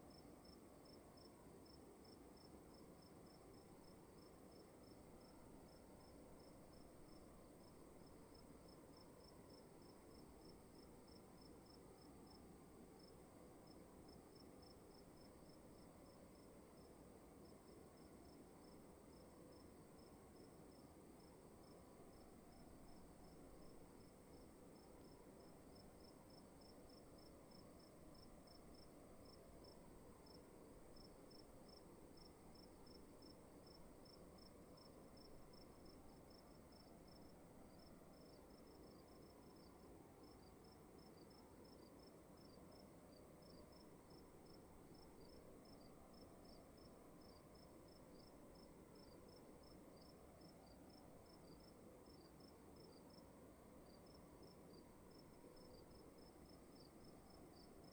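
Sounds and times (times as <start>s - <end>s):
faint crickets chirping: 0.0s - 57.9s
soft low hiss: 0.0s - 57.9s.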